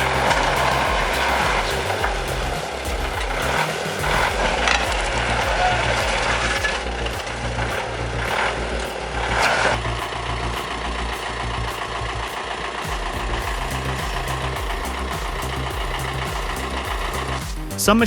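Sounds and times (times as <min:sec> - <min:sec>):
background music with steady beat: 0:00.0 - 0:18.0.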